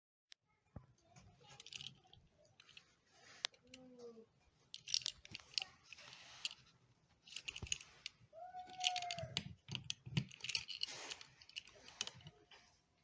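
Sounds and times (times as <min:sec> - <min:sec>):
hand tools clicking and scraping: 0:01.4 - 0:12.8.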